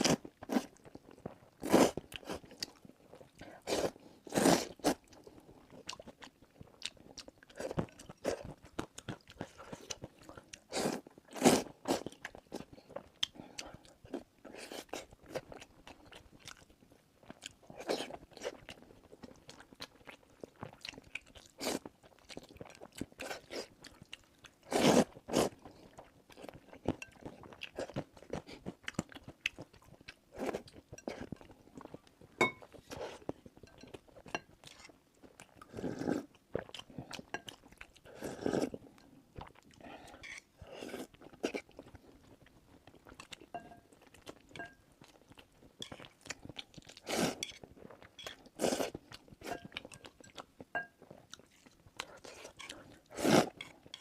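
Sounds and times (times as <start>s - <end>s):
person chewing and crunching: 0.0s - 54.0s.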